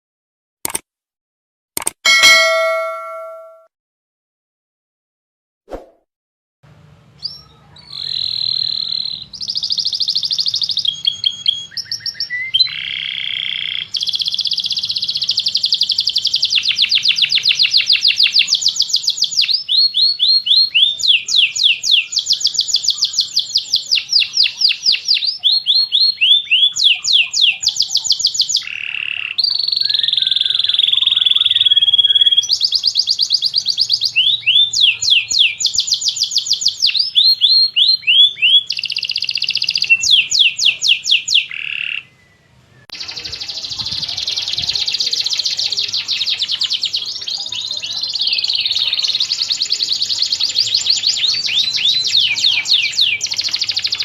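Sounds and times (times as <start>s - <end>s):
canary singing trills: 7.2s - 54.0s.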